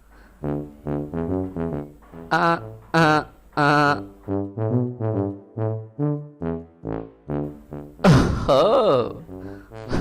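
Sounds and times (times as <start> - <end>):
brass instrument bouncy notes: 0.4 - 10.0.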